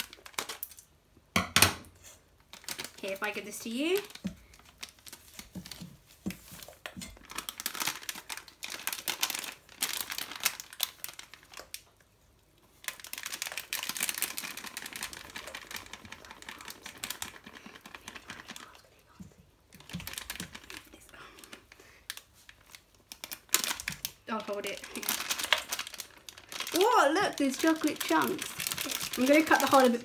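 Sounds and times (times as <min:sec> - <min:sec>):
packet crinkling: 0:00.0 - 0:01.0, 0:02.3 - 0:30.0.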